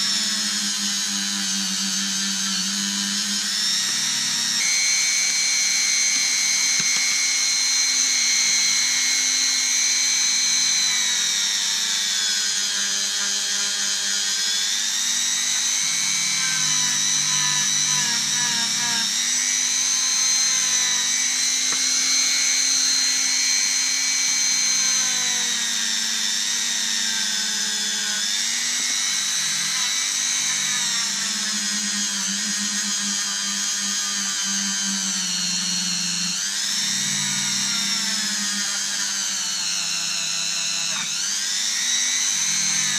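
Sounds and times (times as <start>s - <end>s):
rotary tool whining: 0.0s - 42.9s.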